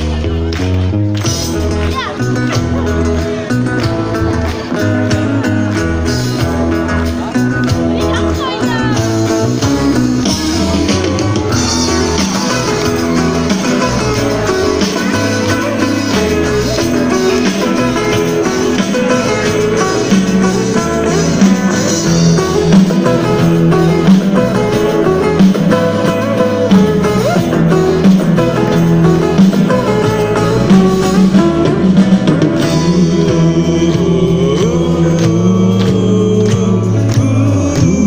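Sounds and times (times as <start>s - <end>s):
drums: 0.0s - 38.0s
electric guitars: 0.0s - 38.0s
live rock band playing: 0.0s - 38.0s
steady bass line: 0.0s - 38.0s.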